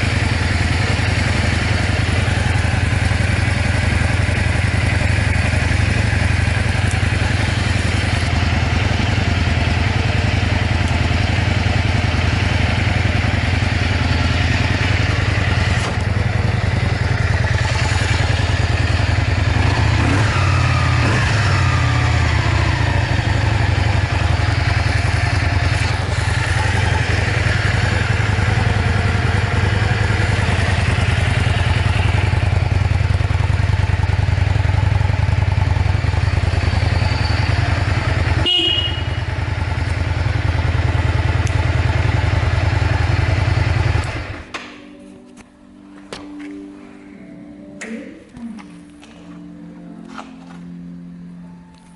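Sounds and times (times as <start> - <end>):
motorcycle engine idling: 0.0 - 44.6.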